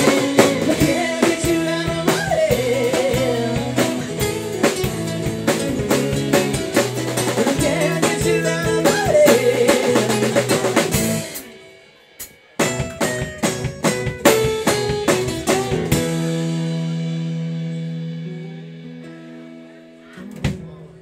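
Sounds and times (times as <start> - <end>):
hard accented drum hits: 0.0 - 17.6
live rock band playing: 0.0 - 21.0.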